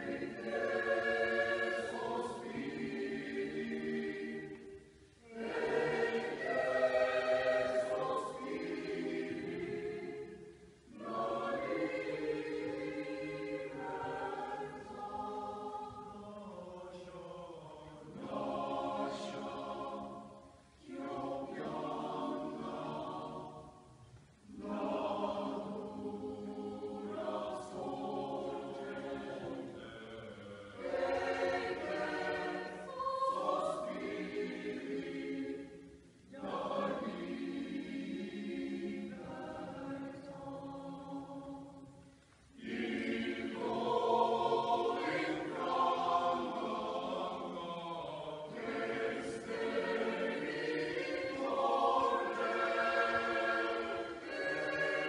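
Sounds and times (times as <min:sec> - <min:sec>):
mixed choir singing unaccompanied: 0:00.0 - 0:55.0.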